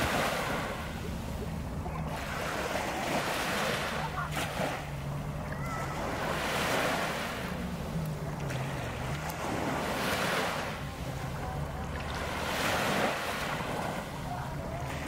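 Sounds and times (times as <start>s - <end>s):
small waves breaking on shore: 0.0s - 15.0s.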